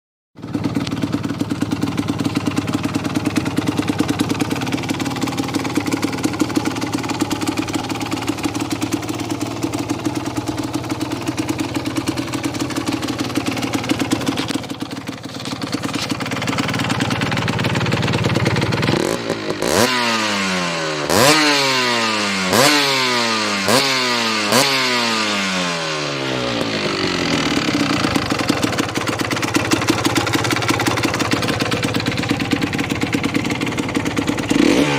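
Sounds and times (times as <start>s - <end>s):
motorcycle engine idling and revving: 0.4s - 34.9s.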